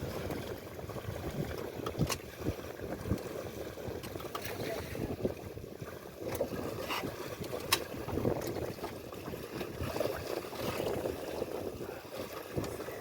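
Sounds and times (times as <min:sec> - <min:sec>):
water moving around a boat: 0:00.0 - 0:13.0
wind buffeting microphone: 0:00.0 - 0:13.0.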